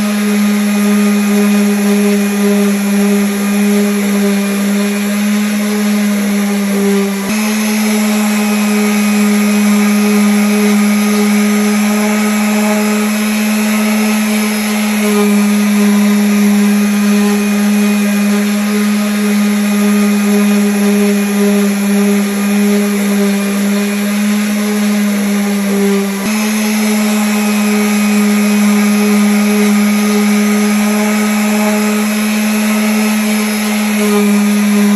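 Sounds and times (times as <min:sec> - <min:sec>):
electric sander on wood: 0:00.0 - 0:34.9.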